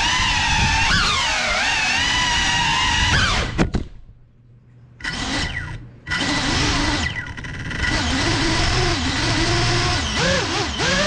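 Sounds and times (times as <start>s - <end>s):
drone motors whining: 0.0s - 3.7s, 5.0s - 11.0s.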